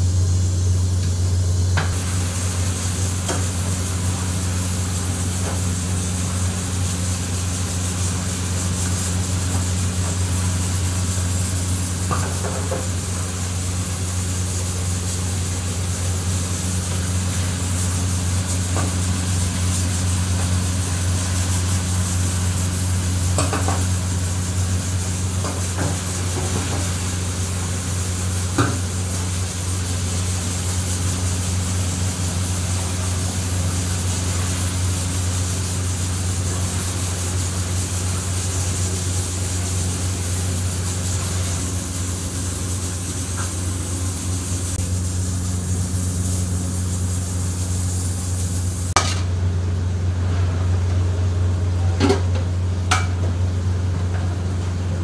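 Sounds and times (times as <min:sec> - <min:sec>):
oil sizzling in fryer: 0:00.0 - 0:55.0.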